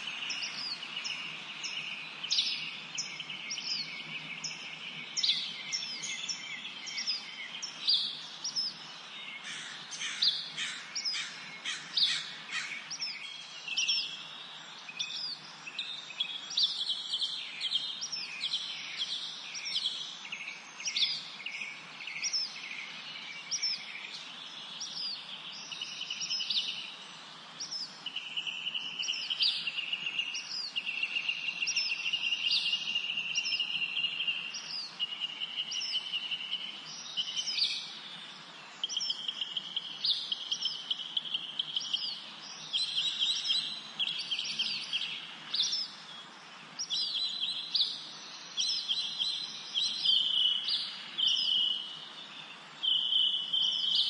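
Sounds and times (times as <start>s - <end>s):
faint steady hiss: 0.0s - 54.0s
songbirds trilling: 0.0s - 54.0s.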